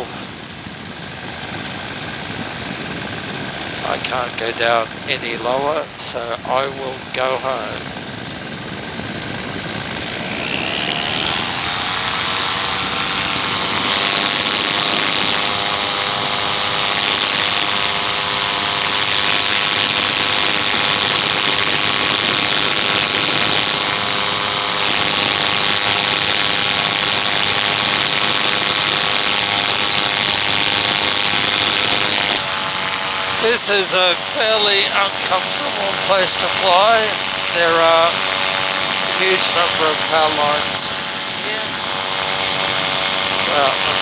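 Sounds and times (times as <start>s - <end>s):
paramotor engine revving: 1.1s - 44.0s.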